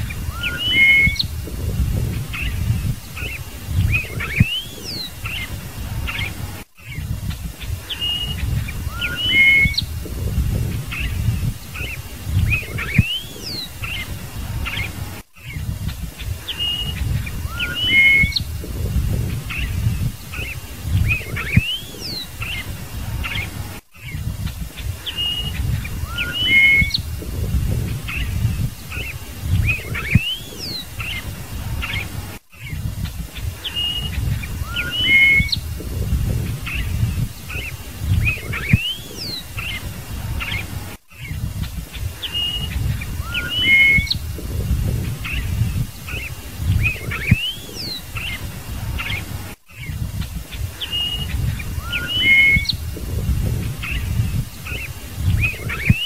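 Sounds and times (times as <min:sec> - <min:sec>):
bird singing whistles: 0:00.0 - 0:07.2, 0:07.8 - 0:15.7, 0:16.4 - 0:24.2, 0:25.0 - 0:32.8, 0:33.6 - 0:39.8, 0:42.2 - 0:48.4, 0:50.8 - 0:56.0
low rumbling noise: 0:00.0 - 0:56.0.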